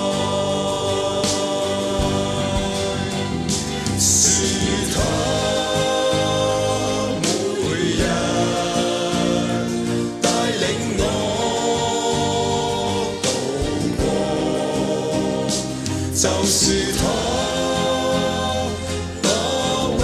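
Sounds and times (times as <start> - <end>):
band playing sustained chords: 0.0 - 20.0
choir-like singing: 0.0 - 20.0.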